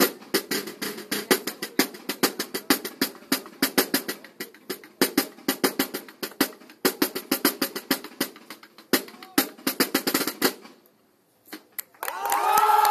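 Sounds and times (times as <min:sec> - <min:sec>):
marching drums playing cadence: 0:00.0 - 0:10.8.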